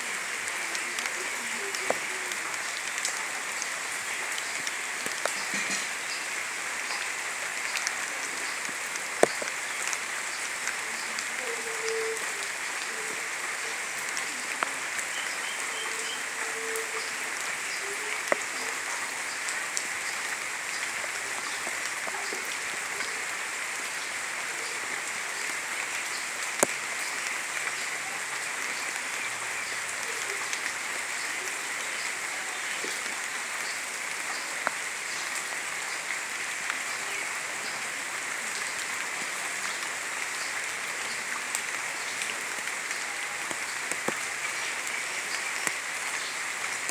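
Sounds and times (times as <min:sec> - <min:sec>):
heavy rainfall: 0:00.0 - 0:46.9.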